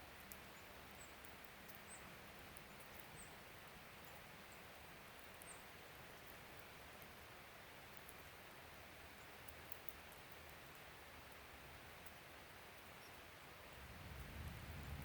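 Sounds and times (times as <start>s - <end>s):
tiny ticks: 0.0s - 13.2s.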